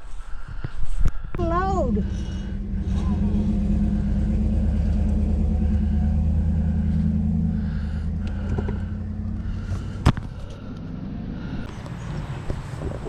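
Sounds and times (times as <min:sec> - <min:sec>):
vehicle engine running: 0:01.3 - 0:13.0.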